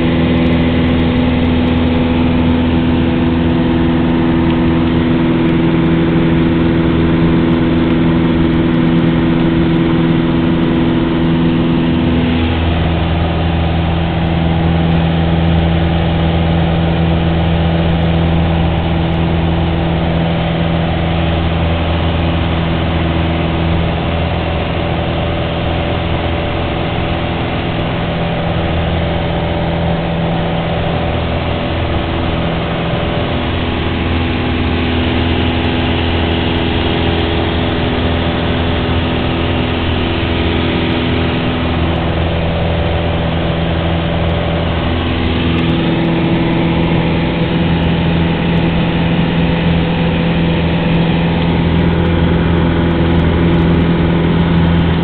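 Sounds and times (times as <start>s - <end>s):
small airplane engine running: 0.0s - 55.0s.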